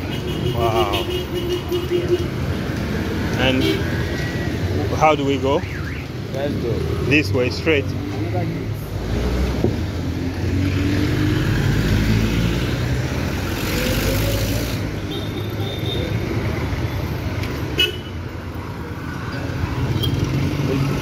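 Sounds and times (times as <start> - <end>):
vehicle engines passing: 0.0 - 21.0.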